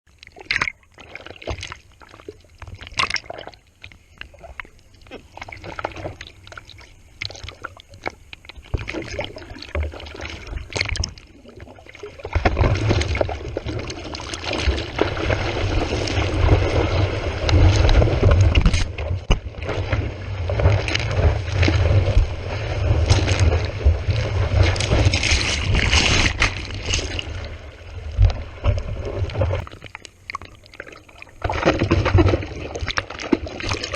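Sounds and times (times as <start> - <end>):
sea water splashing: 0.1 - 33.9
water rushing with low rumble: 0.1 - 33.9.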